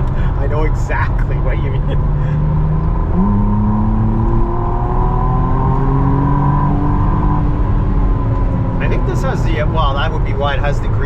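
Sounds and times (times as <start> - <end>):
sports car engine from inside cabin: 0.0 - 11.0.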